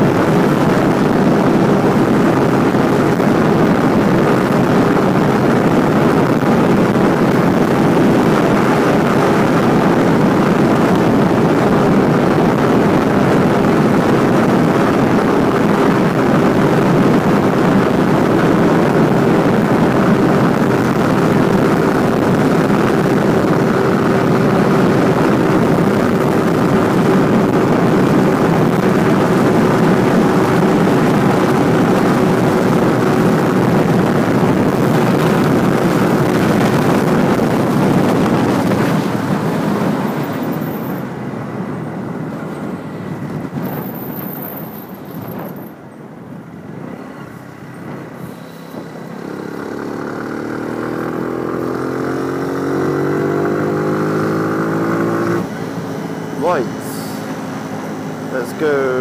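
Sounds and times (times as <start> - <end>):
motorcycle engine hum: 0.0 - 59.0
wind rushing over microphone: 0.0 - 59.0.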